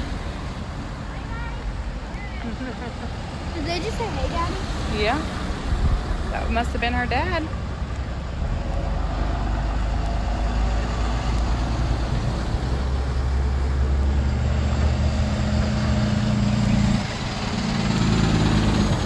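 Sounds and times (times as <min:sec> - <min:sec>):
tow truck engines passing: 0:00.0 - 0:19.0.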